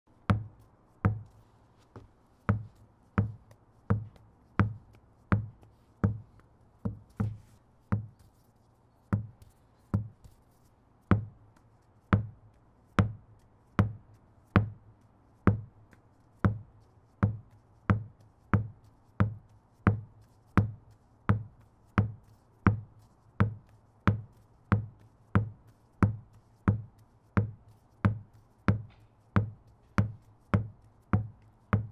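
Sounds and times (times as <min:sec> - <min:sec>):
tennis ball bouncing on wooden deck: 0:00.2 - 0:01.4, 0:02.0 - 0:08.2, 0:09.2 - 0:09.4, 0:10.0 - 0:10.3, 0:11.1 - 0:11.4, 0:12.1 - 0:14.8, 0:15.5 - 0:15.7, 0:16.5 - 0:31.9.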